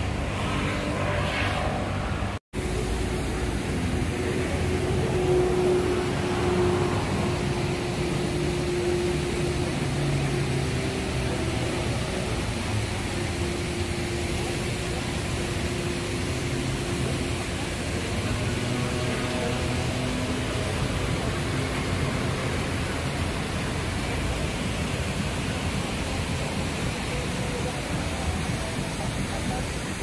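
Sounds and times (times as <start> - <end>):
city traffic rushing: 0.0 - 30.0.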